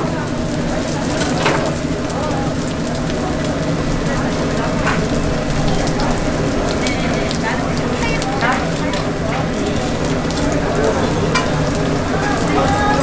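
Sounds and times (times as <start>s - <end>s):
pancakes sizzling in oil: 0.0s - 13.0s.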